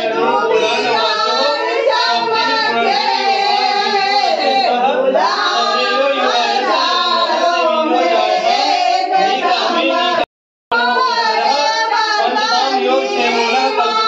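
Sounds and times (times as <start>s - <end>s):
group of people singing: 0.0s - 14.0s.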